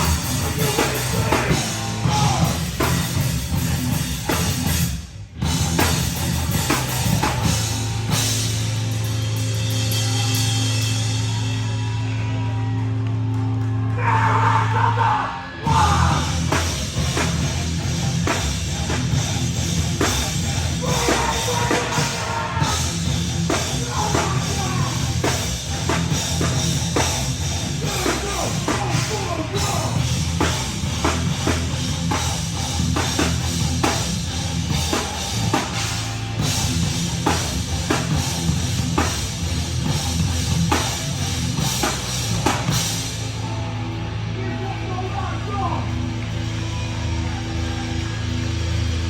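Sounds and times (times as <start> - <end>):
live band playing heavy rock: 0.0 - 49.0
pounding drum kit: 0.0 - 49.0.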